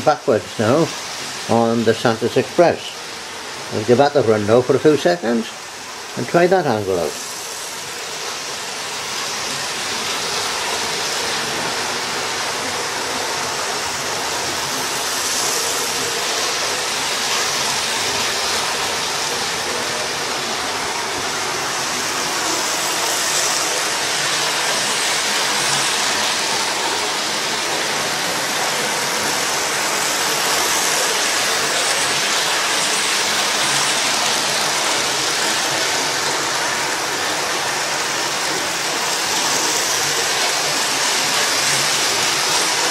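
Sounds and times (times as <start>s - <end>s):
model train rushing rumble: 0.0s - 42.9s.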